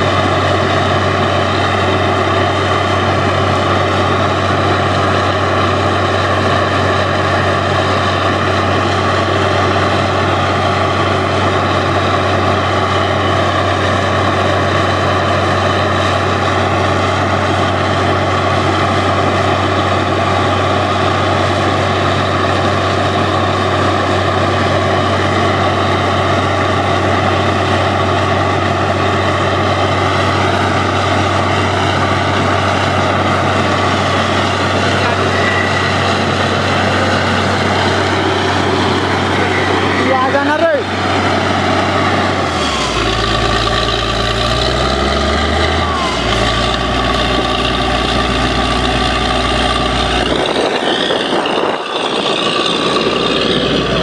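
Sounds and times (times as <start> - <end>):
drilling rig engine running: 0.0 - 54.0.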